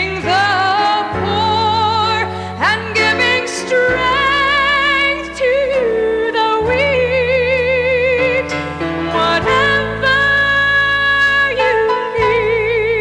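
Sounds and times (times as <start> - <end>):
solo voice singing with vibrato: 0.0 - 13.0
sustained instrumental accompaniment: 0.4 - 13.0.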